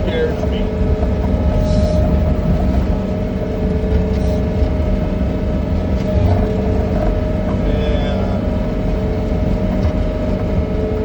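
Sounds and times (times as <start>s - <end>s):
constant whine: 0.0s - 11.0s
loud engine rumble: 0.0s - 11.0s.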